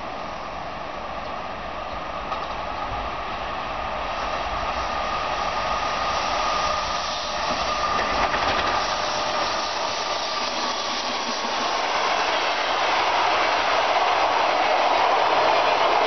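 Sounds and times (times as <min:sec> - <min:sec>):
high locomotive whine: 0:00.0 - 0:16.0
train wheels rushing on rails: 0:00.0 - 0:16.0.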